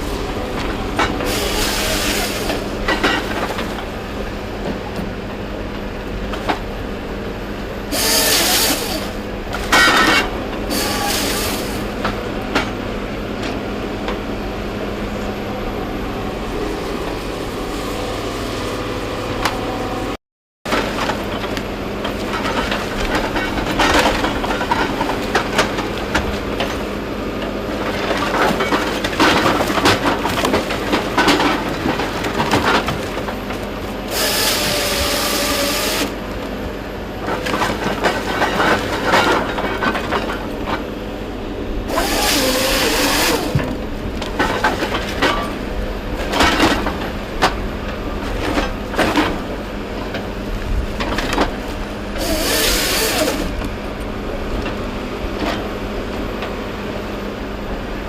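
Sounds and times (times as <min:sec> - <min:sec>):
diesel machine running: 0:00.0 - 0:58.0.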